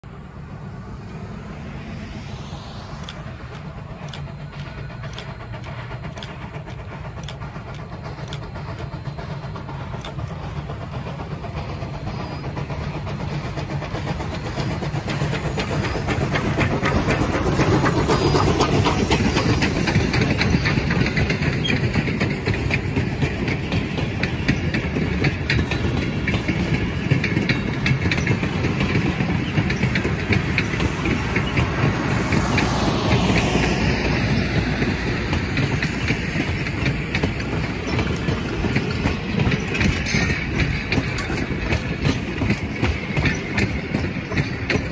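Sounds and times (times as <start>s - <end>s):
steam locomotive passing: 0.0s - 44.9s
train wheels clattering on rails: 1.0s - 44.9s.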